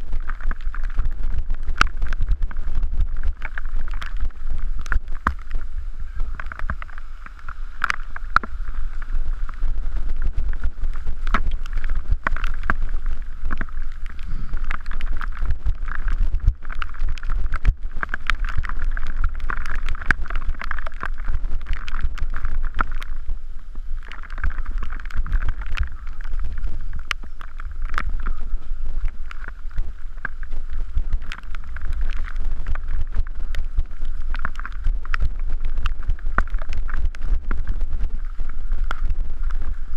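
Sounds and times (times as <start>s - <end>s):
bike tyres on wet dirt: 0.0s - 39.9s
wind rumble on microphone: 0.0s - 39.9s.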